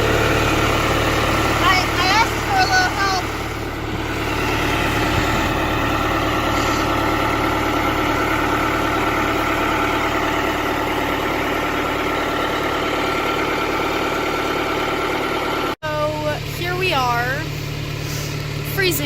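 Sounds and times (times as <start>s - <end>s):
large engine idling: 0.0s - 19.0s.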